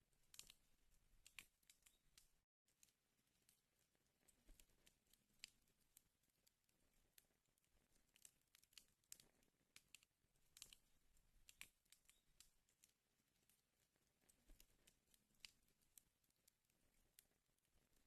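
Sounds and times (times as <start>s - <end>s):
wood fire crackling: 0.1s - 18.0s.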